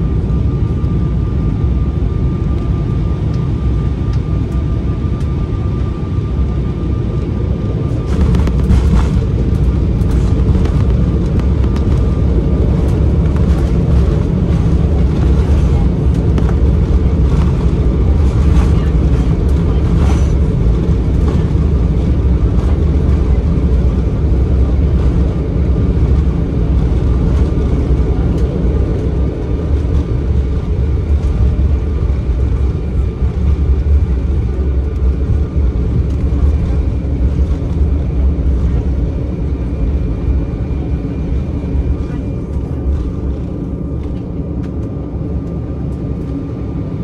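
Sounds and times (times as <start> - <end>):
aircraft cabin rumble: 0.0 - 47.0.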